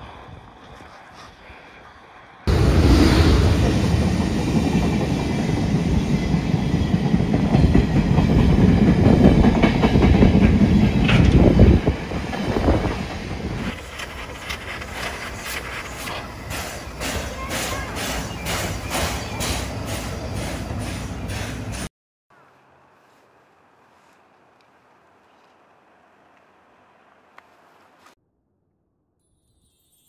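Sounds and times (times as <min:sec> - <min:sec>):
steam locomotive passing: 0:00.0 - 0:28.2.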